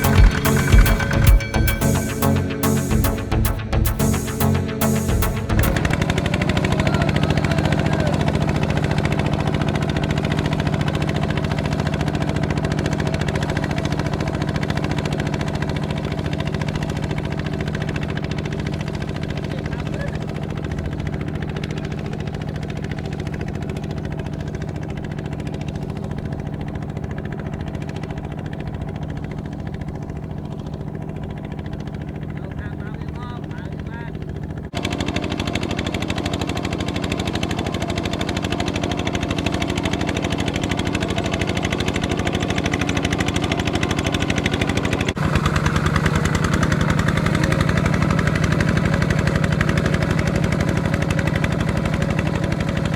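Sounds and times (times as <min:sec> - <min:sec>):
tractor diesel engine putter: 0:00.0 - 0:52.9.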